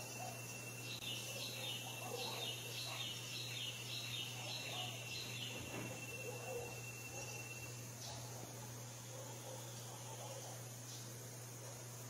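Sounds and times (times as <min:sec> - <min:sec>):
bird chirping: 0:00.0 - 0:11.1.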